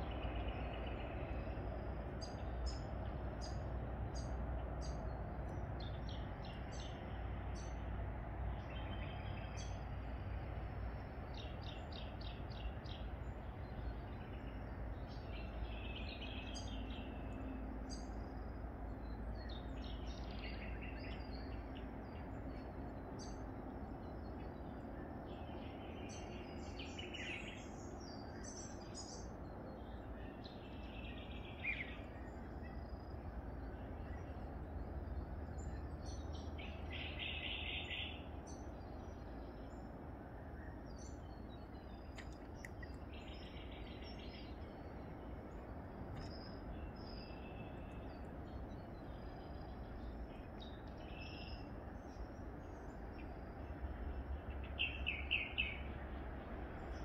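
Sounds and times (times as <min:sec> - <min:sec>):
low background rumble: 0:00.0 - 0:57.0
small birds chirping: 0:11.1 - 0:57.0.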